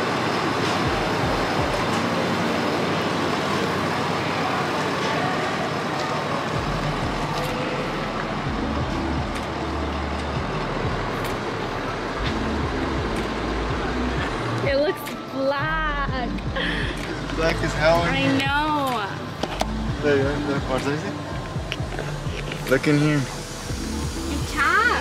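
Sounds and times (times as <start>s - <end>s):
low engine rumble: 0.0s - 25.0s
traffic noise: 0.0s - 25.0s.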